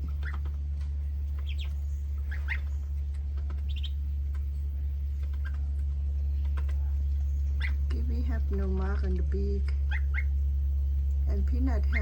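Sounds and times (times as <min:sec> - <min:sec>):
ducklings peeping: 0:00.0 - 0:12.0
steady low hum: 0:00.0 - 0:12.0.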